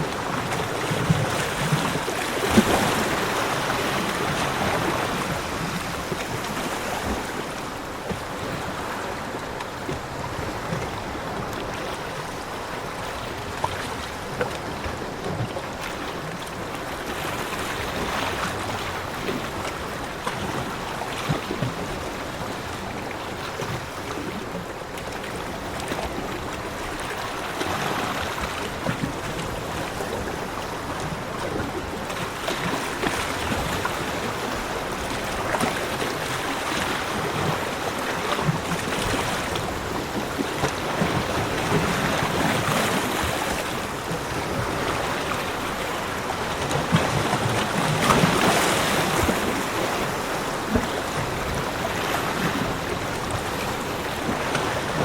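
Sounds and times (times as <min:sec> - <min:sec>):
sea waves washing onto beach: 0:00.0 - 0:55.0.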